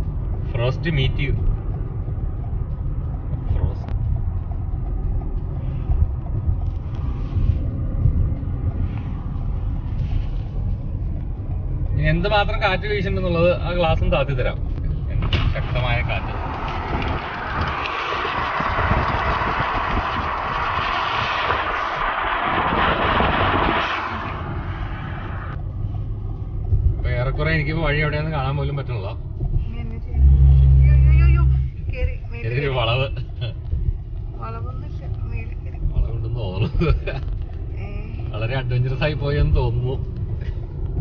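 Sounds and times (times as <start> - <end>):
car driving rumble from inside: 0.0 - 41.0
wind gusts hissing against car: 0.0 - 41.0.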